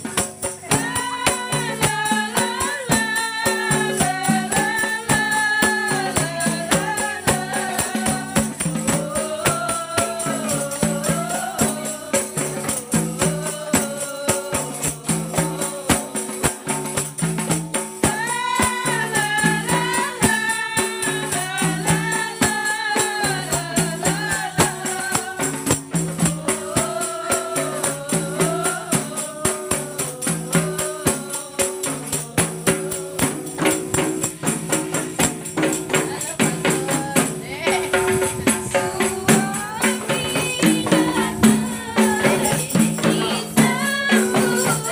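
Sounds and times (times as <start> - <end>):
frame drum beat: 0.0 - 44.9
jingle tambourines: 0.0 - 44.9
women singing in unison: 0.0 - 44.9.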